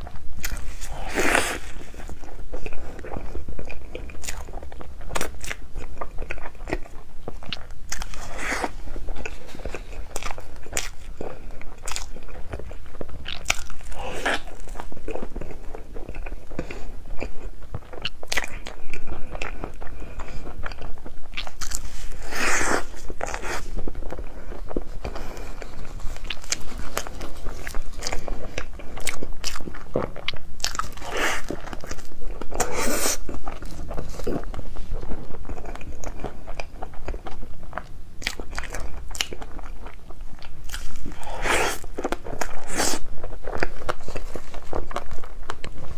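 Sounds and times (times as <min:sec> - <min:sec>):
biting and chewing: 0:00.0 - 0:45.9.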